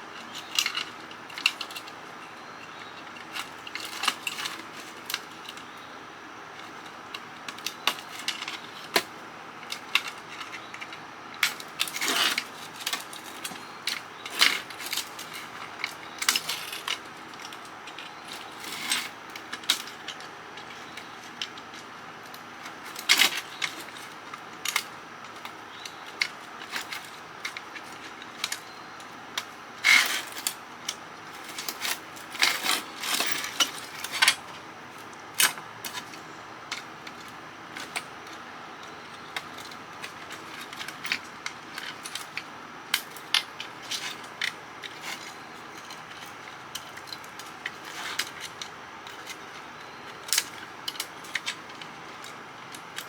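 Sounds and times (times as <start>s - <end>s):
hand tools clicking and snapping: 0.2s - 5.8s, 6.6s - 53.0s.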